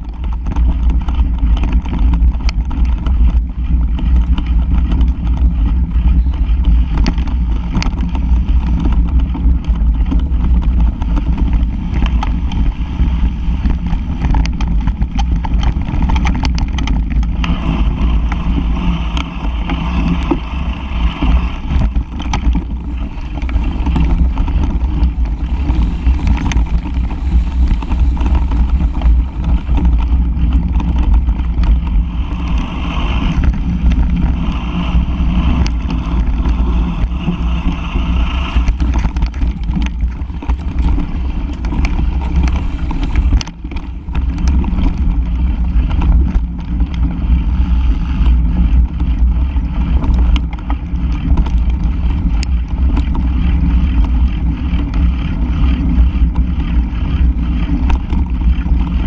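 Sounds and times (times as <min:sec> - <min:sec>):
bike clicks and knocks: 0:00.0 - 0:59.0
wind and tyres rumbling: 0:00.0 - 0:59.0.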